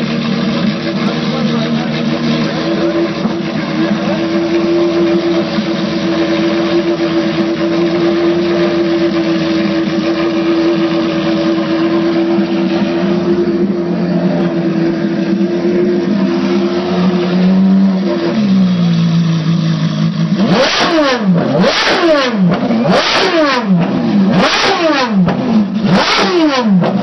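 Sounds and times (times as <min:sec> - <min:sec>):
car engine at raised revs: 0:00.0 - 0:27.0.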